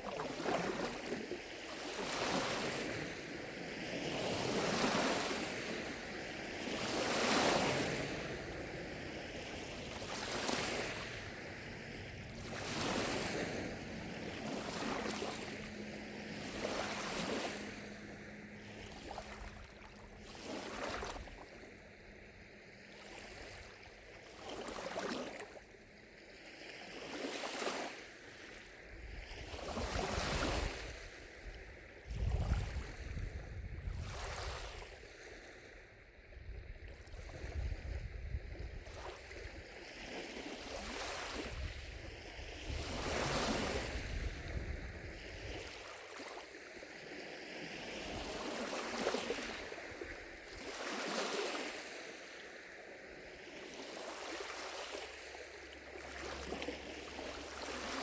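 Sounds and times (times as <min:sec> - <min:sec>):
wind rumble on microphone: 0:00.0 - 0:25.0, 0:28.6 - 0:58.0
lake waves lapping on shore: 0:00.0 - 0:58.0.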